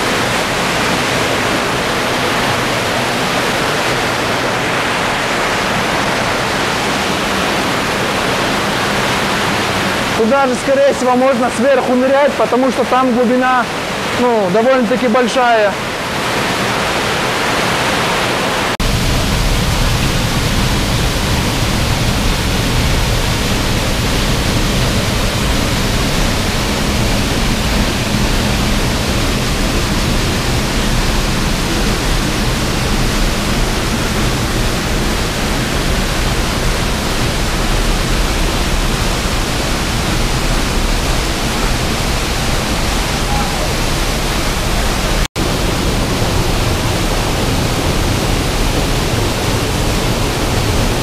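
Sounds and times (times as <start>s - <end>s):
waterfall pouring into pool: 0.0s - 51.0s.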